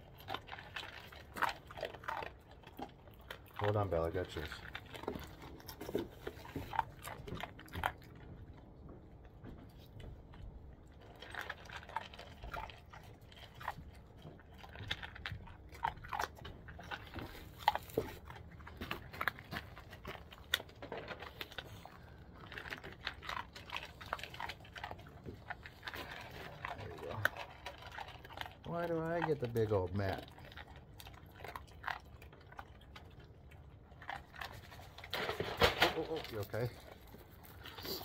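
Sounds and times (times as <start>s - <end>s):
dogs crunching dry kibble: 0.0s - 38.0s.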